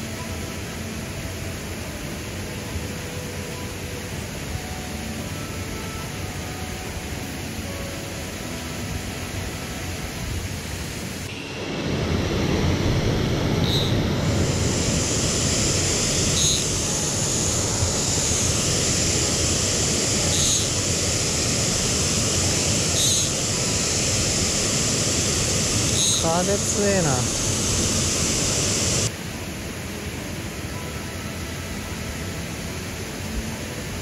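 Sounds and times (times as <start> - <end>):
waterfall and stream rushing: 0.0 - 34.0.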